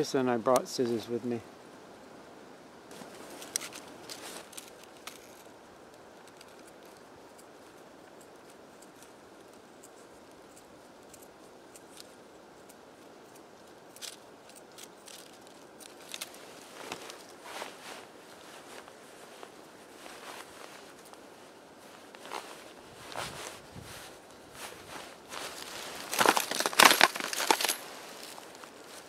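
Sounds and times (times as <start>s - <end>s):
faint hiss: 0.0s - 26.2s.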